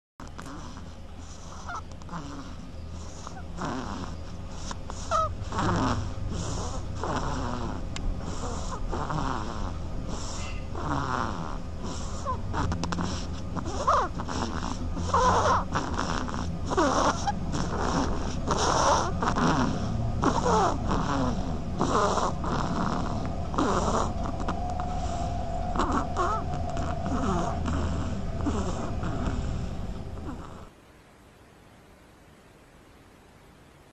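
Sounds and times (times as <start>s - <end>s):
duck snoring: 0.2s - 30.7s.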